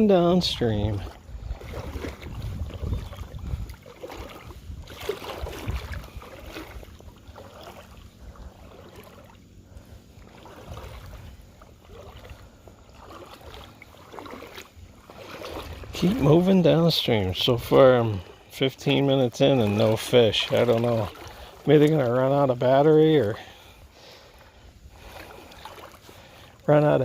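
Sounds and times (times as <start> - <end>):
legs wading through water: 0.0 - 27.0.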